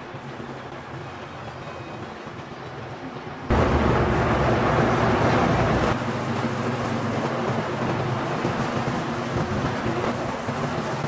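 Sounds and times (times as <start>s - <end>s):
factory machinery rumbling: 0.0s - 11.0s.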